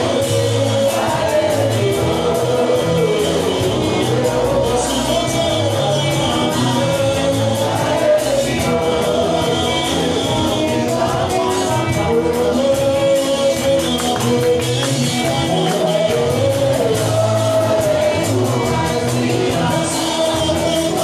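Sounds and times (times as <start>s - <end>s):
gospel worship music over loudspeakers: 0.0s - 21.0s.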